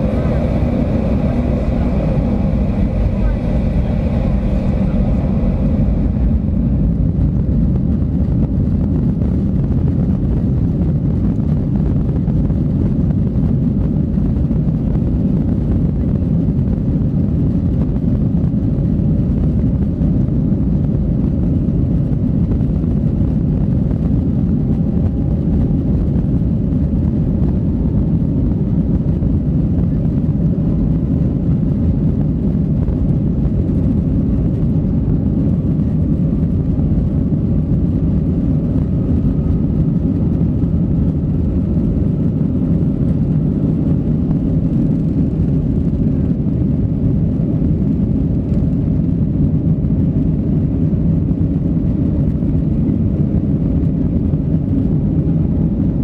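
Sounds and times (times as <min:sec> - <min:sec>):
faint engine whine: 0:00.0 - 0:56.0
jet engines at high power: 0:00.0 - 0:56.0
low rumble of takeoff roll: 0:00.0 - 0:56.0.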